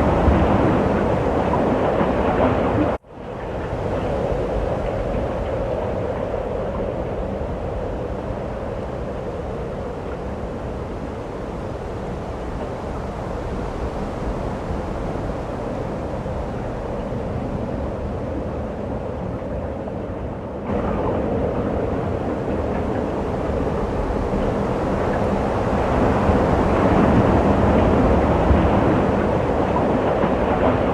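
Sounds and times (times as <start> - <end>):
snowstorm wind blowing: 0.0 - 30.9.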